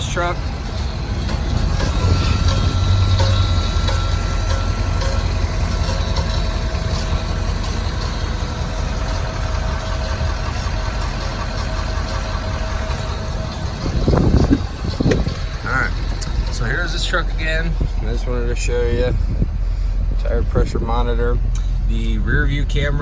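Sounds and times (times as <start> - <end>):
pickup truck engine idling: 0.0 - 23.0.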